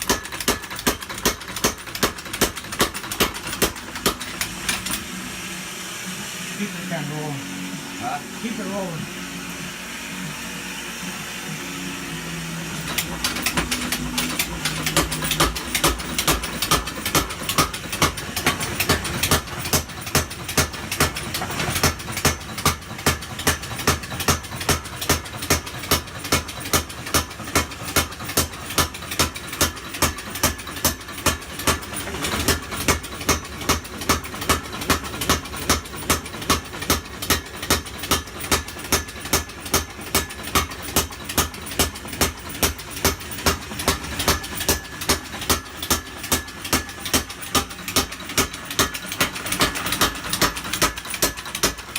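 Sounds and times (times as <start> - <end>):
power hammer striking anvil: 0.0 - 5.2, 12.7 - 51.9
motor hum: 0.0 - 51.9.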